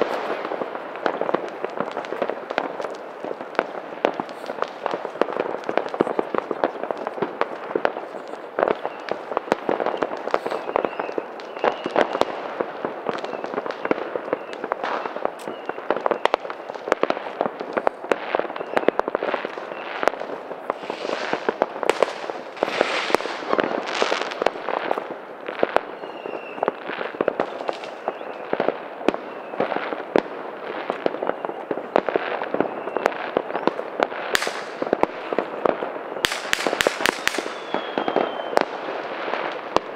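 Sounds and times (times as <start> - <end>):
fireworks bangs and crackling: 0.0 - 39.9
fireworks whistles: 0.0 - 39.9
hissing crackle: 0.0 - 39.9.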